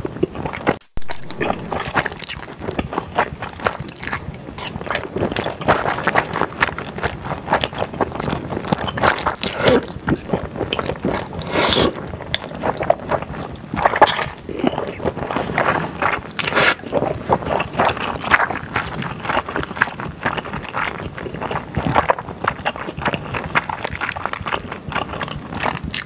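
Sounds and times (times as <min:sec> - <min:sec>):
mouth clicks and smacks: 0:00.0 - 0:26.0
slurping: 0:00.0 - 0:26.0
wet sticky chewing: 0:00.0 - 0:26.0.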